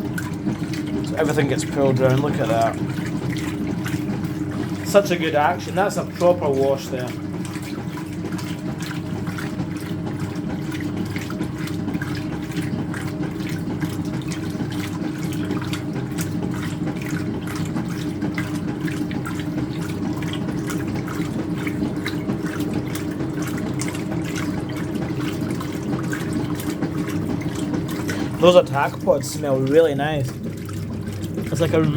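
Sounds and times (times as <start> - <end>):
washer motor hum: 0.0 - 31.9
water sloshing in washer: 0.0 - 31.9.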